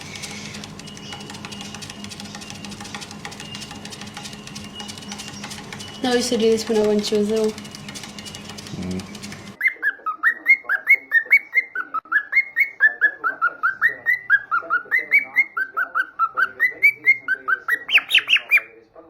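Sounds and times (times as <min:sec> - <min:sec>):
pet bird chirping: 0:00.0 - 0:18.8.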